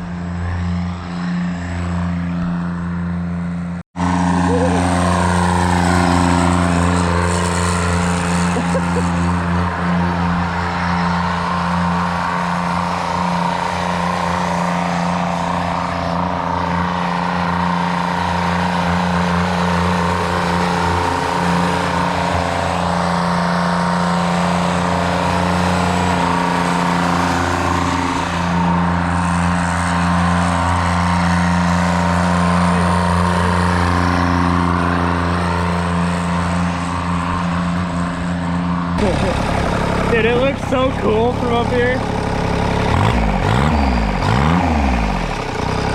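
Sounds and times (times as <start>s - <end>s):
diesel mower engine running: 0.0s - 45.9s.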